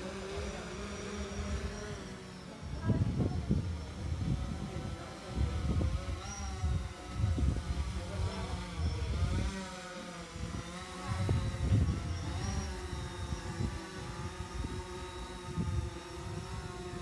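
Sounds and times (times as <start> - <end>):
drone propellers buzzing: 0.0 - 17.0
wind rumbling on microphone: 0.0 - 17.0.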